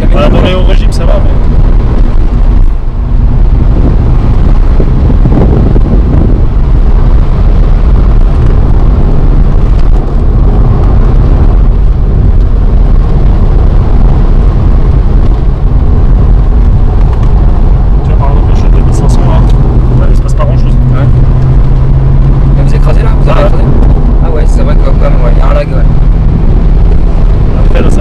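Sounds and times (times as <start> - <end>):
car engine and road noise: 0.0 - 28.0
wind buffeting microphone: 0.0 - 28.0.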